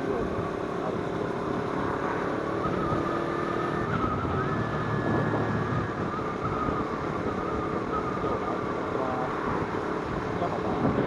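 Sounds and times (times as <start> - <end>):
motorcycle engine running: 0.0 - 11.0
wind noise on microphone: 1.6 - 11.0.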